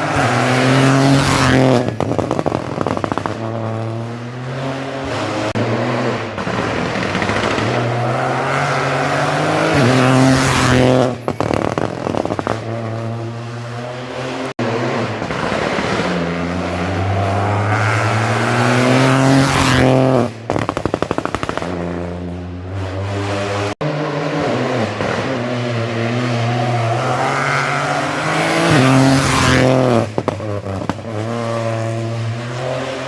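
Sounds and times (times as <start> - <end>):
exhaust pops and crackles: 0.0 - 4.2, 5.1 - 13.4, 14.4 - 22.0, 24.9 - 25.4, 26.0 - 32.4
rally car engine revving: 0.0 - 33.0.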